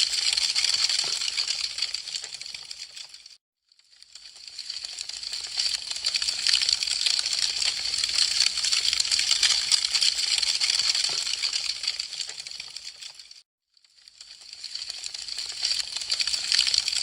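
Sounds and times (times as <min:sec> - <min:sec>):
wood fire crackling and popping: 0:00.0 - 0:03.1, 0:04.2 - 0:13.4, 0:14.1 - 0:17.0.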